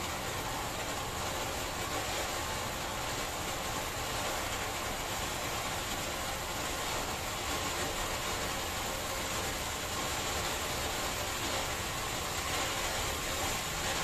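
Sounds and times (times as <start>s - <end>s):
fountain firework sparks hissing: 0.0s - 14.0s.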